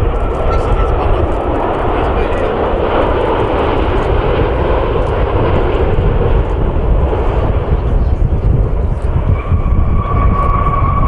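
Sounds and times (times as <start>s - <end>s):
jet engines running: 0.0s - 11.0s
wind buffeting microphone: 0.0s - 11.0s.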